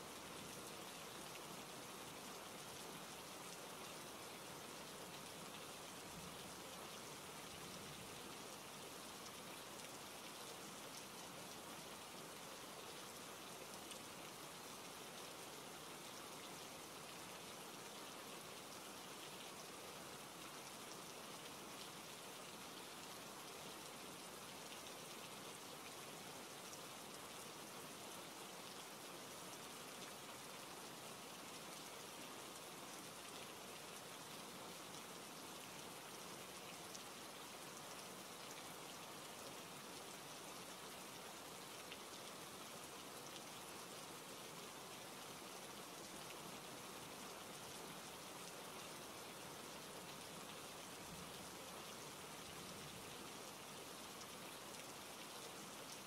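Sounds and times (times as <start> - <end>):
soft rain hiss: 0.0 - 56.0.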